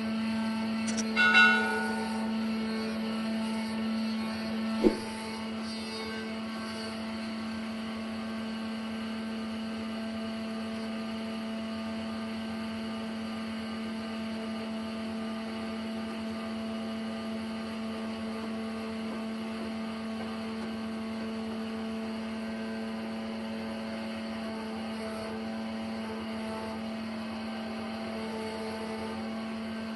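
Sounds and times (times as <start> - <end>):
sawmill machinery humming: 0.0 - 29.9.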